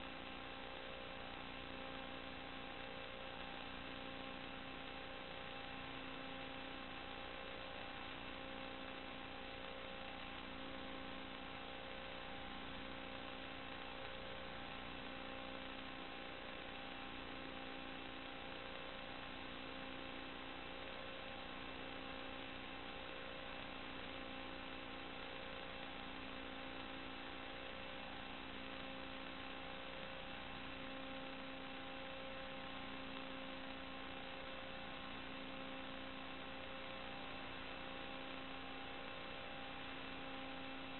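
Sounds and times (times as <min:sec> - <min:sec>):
electronic hum and hiss: 0:00.0 - 0:40.9.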